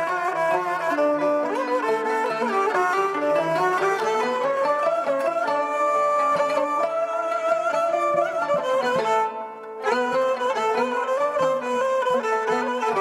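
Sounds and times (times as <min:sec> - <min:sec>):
bowed string melody: 0:00.0 - 0:13.0
lutes playing: 0:00.0 - 0:13.0
plucked zither strings: 0:00.0 - 0:13.0.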